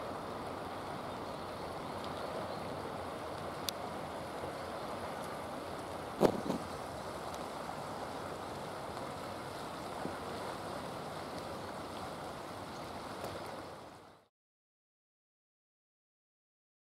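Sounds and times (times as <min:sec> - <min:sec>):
river water rushing: 0:00.0 - 0:14.3.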